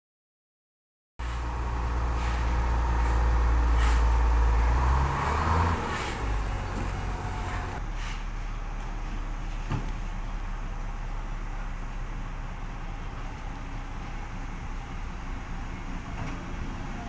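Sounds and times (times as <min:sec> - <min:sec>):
diesel engine rumbling: 0:01.2 - 0:17.0.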